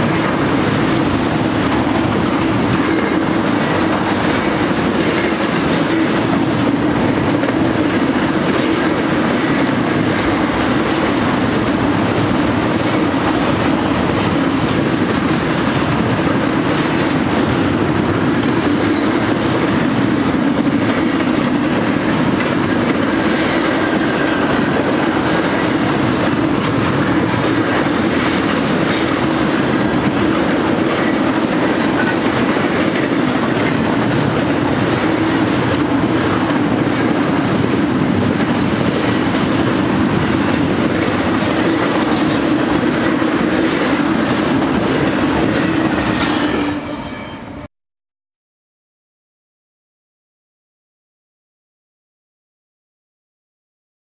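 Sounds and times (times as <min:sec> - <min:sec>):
freight train wheels rumbling on rails: 0:00.0 - 0:47.7.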